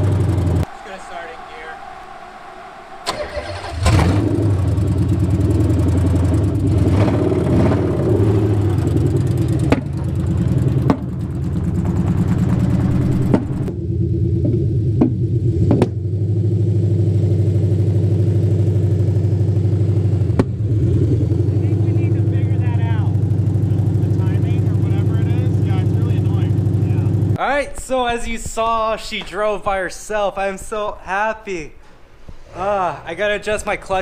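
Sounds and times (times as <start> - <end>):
car engine revving: 0.0 - 27.4.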